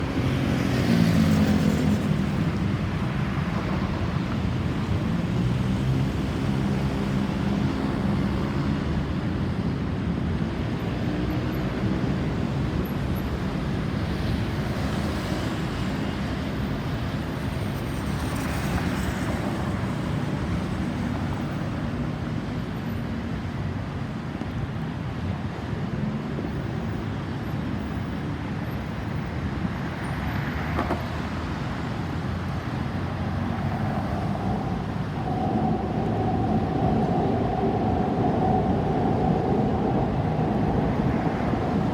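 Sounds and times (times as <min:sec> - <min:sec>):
road traffic noise: 0:00.0 - 0:41.9.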